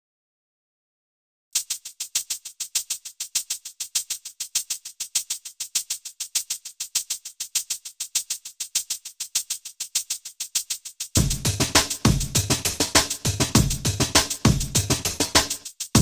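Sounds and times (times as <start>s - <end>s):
rapid high-pitched percussion ticks: 1.6s - 16.0s.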